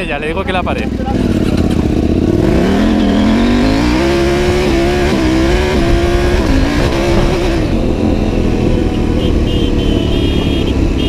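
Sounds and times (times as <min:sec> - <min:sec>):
wind and road rush: 0:00.0 - 0:11.0.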